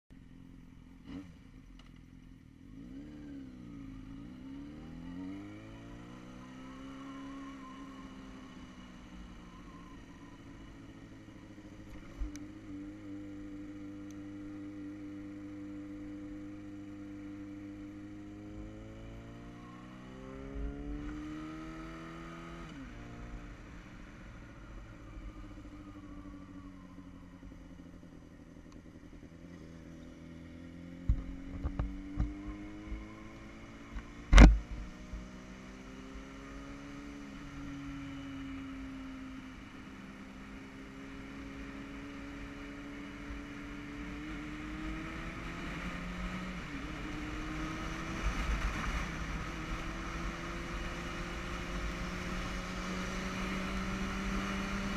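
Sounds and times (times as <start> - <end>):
motorcycle engine accelerating: 0.1 - 54.9.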